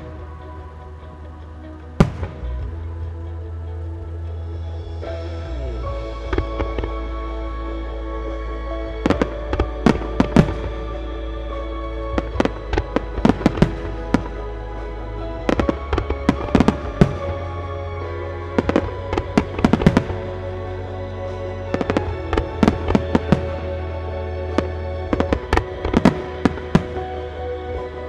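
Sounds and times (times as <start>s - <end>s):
music playing: 0.0s - 28.0s.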